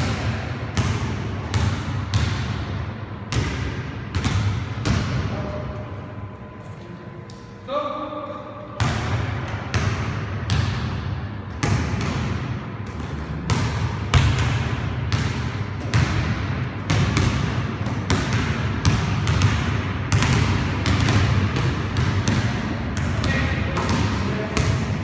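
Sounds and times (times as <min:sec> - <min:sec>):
basketballs bouncing on gym floor: 0:00.0 - 0:05.5, 0:08.8 - 0:25.0.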